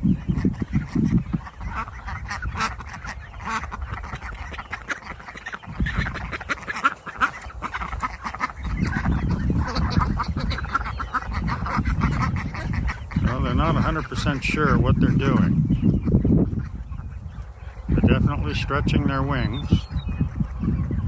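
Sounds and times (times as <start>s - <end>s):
young ducks quacking: 0.0s - 21.0s.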